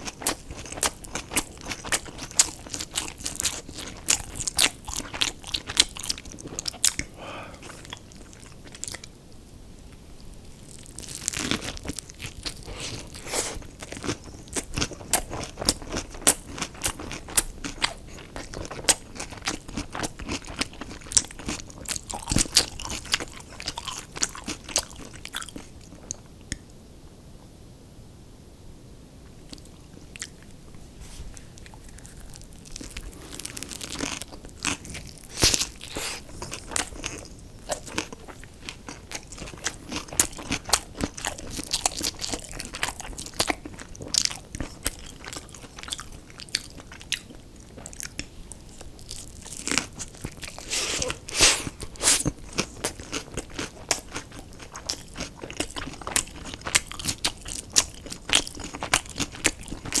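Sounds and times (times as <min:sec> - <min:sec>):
person chewing crunchy food: 0:00.0 - 0:09.2, 0:09.9 - 0:26.4, 0:29.4 - 1:00.0.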